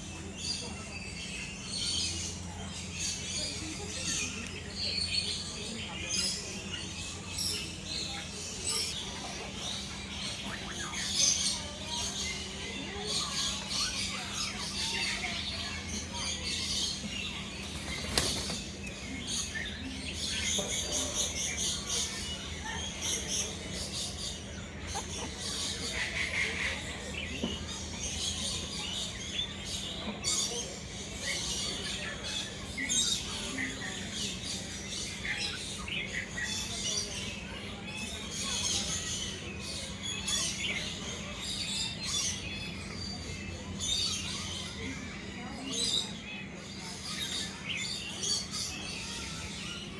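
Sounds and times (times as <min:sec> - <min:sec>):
birds chirping and calling: 0:00.0 - 0:49.9.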